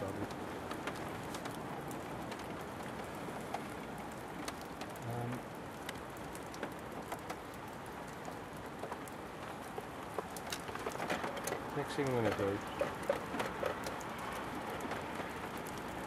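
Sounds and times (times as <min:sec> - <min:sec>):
raindrops ticking on surfaces: 0:00.0 - 0:16.0
steady rain: 0:00.0 - 0:16.0.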